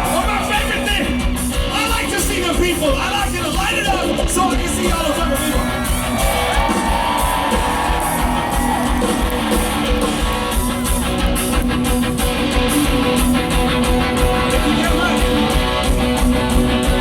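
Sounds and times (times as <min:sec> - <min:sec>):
electric guitars: 0:00.0 - 0:17.0
live rock band playing: 0:00.0 - 0:17.0
steady drum beat: 0:00.0 - 0:17.0.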